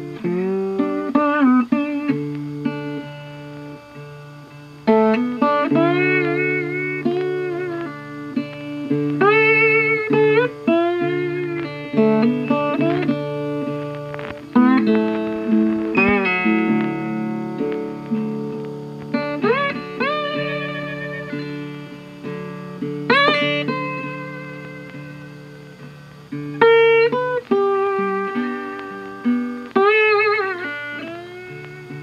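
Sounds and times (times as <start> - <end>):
slow instrumental music: 0.0 - 32.0.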